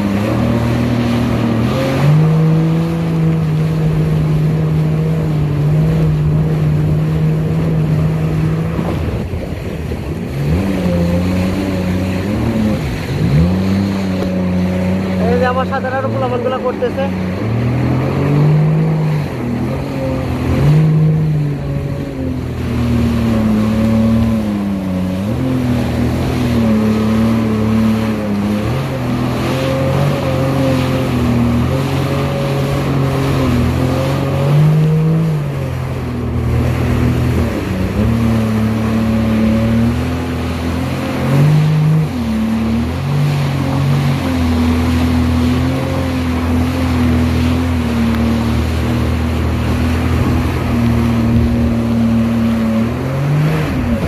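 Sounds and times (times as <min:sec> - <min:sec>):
jet ski engine running: 0:00.0 - 0:54.0
spray and wind rushing: 0:00.0 - 0:54.0.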